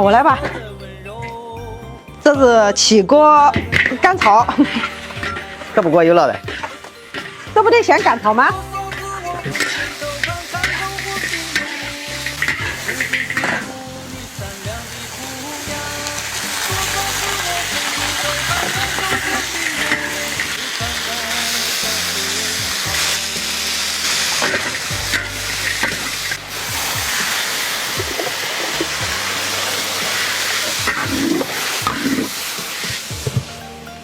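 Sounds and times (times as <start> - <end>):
background music: 0.0 - 34.0
spatula scraping a wok: 3.6 - 33.8
meat sizzling in a wok: 3.6 - 34.0.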